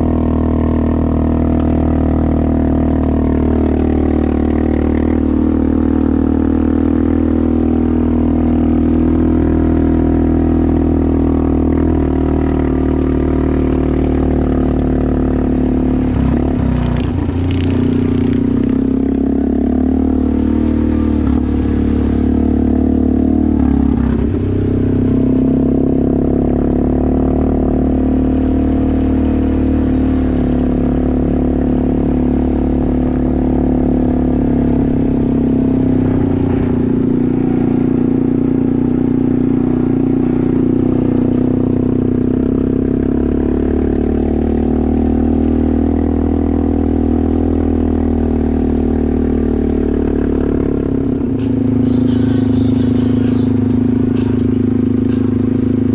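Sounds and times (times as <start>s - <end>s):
off-road vehicle engine droning: 0.0s - 55.9s.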